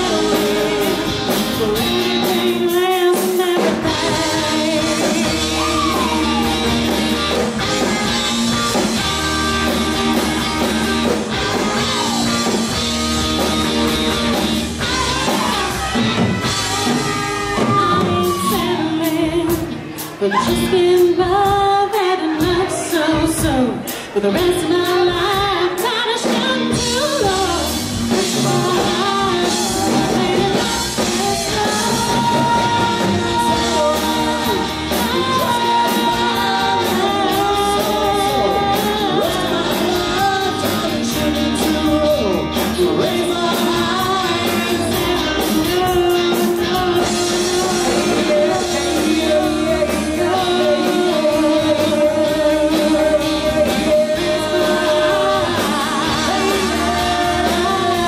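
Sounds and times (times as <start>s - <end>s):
woman singing into a microphone: 0.0s - 6.8s, 14.8s - 58.0s
drums: 0.0s - 58.0s
electric guitar: 0.0s - 58.0s.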